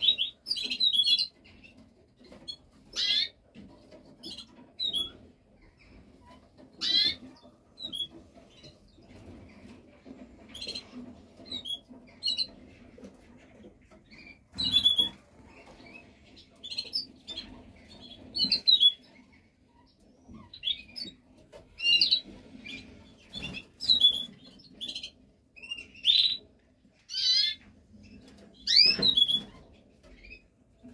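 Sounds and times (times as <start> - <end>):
canaries chirping: 0.0 - 30.9.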